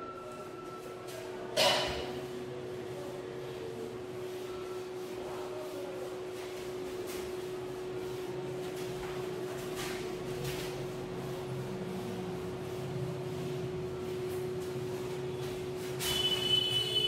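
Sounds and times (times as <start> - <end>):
steady electrical hum: 0.0 - 17.0
eraser scrubbing whiteboard: 2.2 - 17.0.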